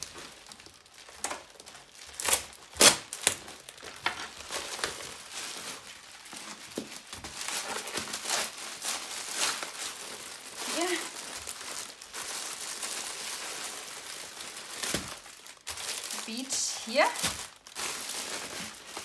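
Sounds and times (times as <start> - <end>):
bubble wrap and plastic crinkling: 0.0 - 19.0.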